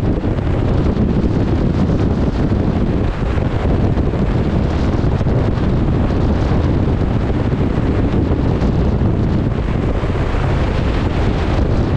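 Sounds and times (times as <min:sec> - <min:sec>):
choppy water rushing: 0:00.0 - 0:11.9
wind buffeting microphone: 0:00.0 - 0:11.9.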